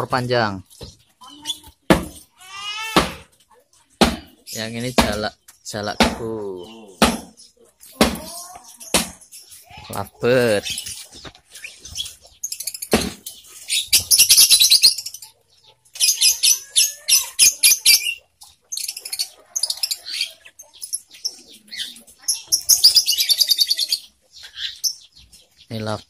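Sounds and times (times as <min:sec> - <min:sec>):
lovebirds chirping: 0:00.0 - 0:26.0.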